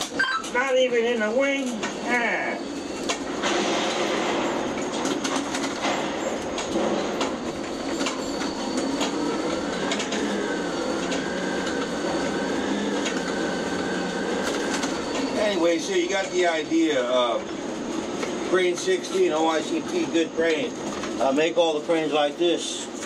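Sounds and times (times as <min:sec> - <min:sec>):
crane hoist mechanical rumble: 0:00.0 - 0:23.0
steady mechanical whine: 0:00.0 - 0:23.0.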